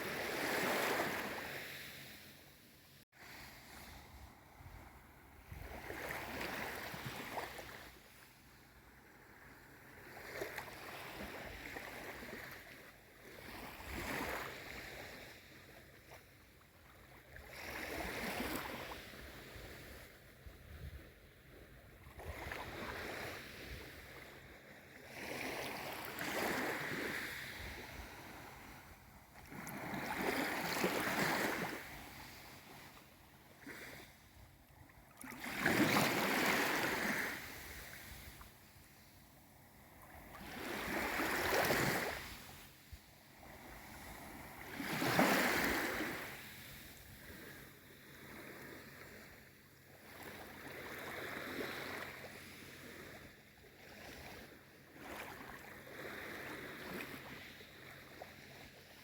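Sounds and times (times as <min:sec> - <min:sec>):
small waves washing in: 0:00.0 - 0:02.6, 0:03.2 - 0:59.0.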